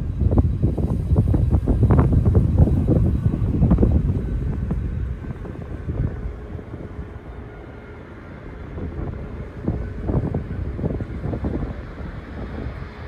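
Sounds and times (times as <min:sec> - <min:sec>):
jet engines rumbling and whining: 0:00.0 - 0:13.0
wind buffeting microphone: 0:00.0 - 0:13.0.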